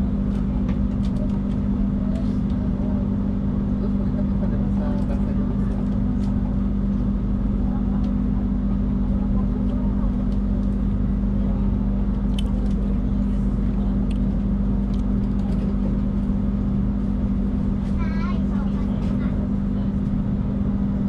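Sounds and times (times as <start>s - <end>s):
train rumbling on track: 0.0s - 21.0s.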